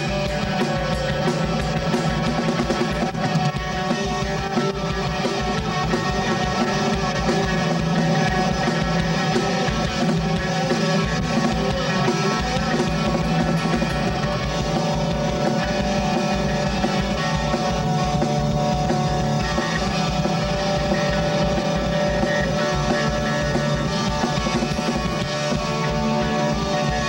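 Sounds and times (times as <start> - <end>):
bass guitar: 0.0 - 27.0
drum kit beat: 0.0 - 27.0
electric guitar: 0.0 - 27.0.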